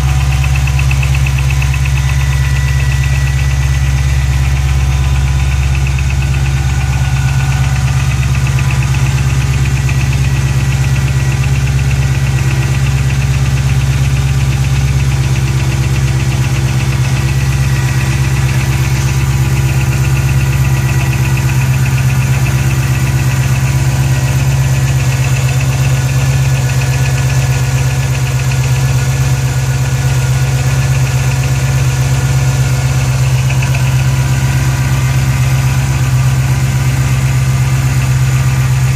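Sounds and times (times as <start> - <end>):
car engine idling: 0.0 - 38.9
engine ticking: 0.0 - 38.9.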